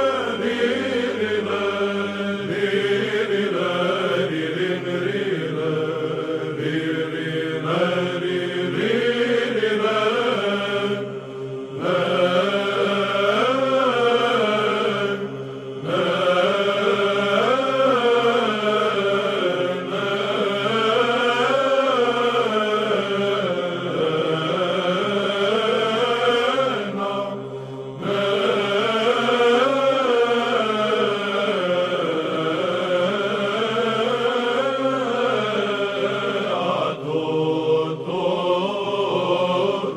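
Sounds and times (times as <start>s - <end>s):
held vocal drone: 0.0s - 39.9s
melismatic chant singing: 0.0s - 39.9s.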